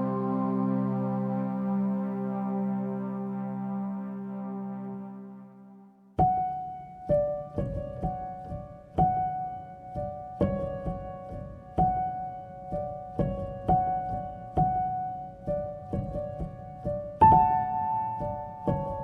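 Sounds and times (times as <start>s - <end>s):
calm piano notes: 0.0s - 5.5s, 6.2s - 19.0s.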